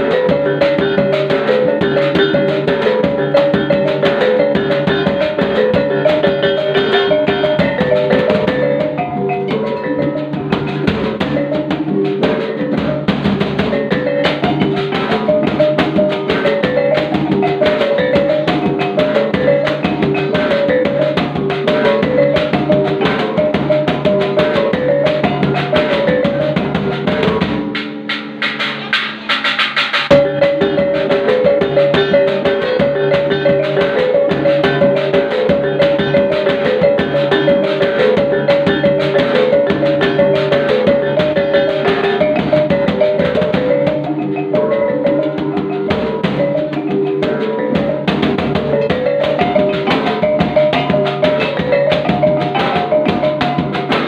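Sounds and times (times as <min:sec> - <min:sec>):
tuned gongs playing melody: 0:00.0 - 0:29.3, 0:30.0 - 0:54.0
steady drum beats: 0:00.0 - 0:54.0.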